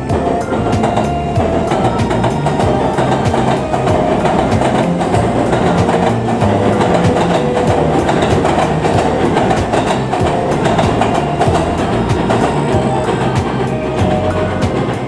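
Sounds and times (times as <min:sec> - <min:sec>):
train rumbling over steel bridge: 0:00.0 - 0:15.0
wheels clicking over rail joints: 0:00.0 - 0:15.0.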